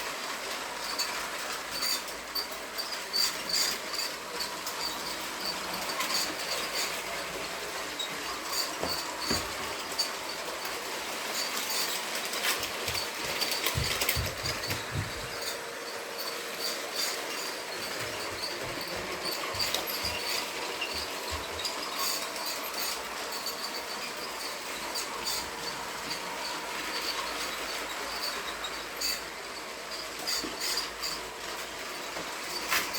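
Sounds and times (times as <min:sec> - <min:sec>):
toy train motor whir: 0:00.0 - 0:32.9.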